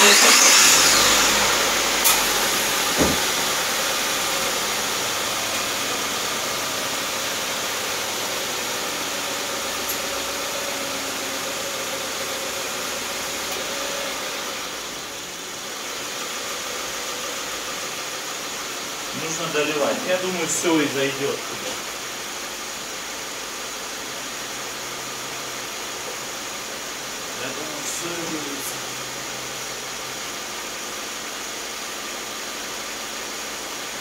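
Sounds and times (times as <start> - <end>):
car engine starting and idling: 0.0 - 33.7.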